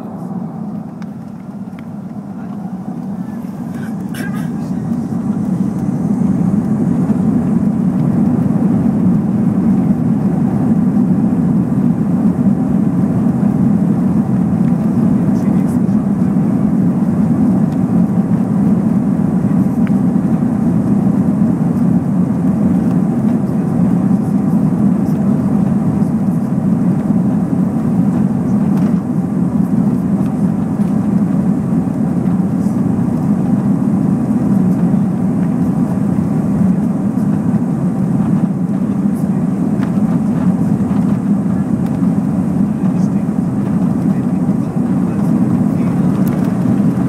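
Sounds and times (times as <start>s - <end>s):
jet engine roar: 0.0s - 47.0s.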